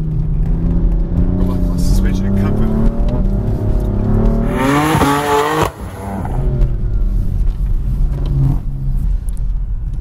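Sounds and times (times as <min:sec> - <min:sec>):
car engine under hard throttle: 0:00.0 - 0:10.0.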